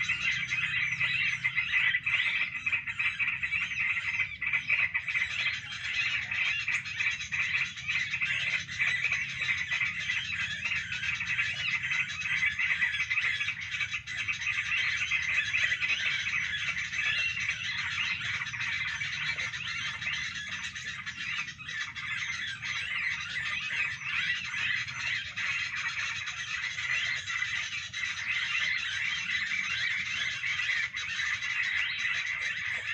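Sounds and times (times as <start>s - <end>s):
many small birds chattering: 0.0s - 32.9s.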